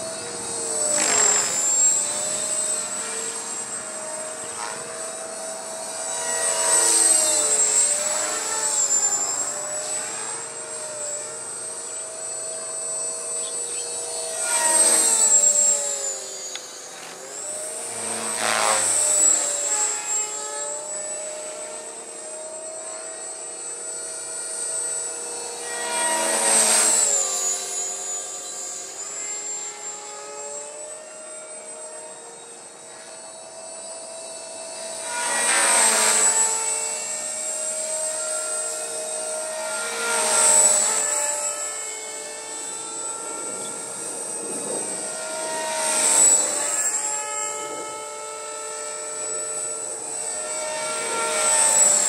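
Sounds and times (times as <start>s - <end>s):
model helicopter motor whine: 0.0s - 52.0s.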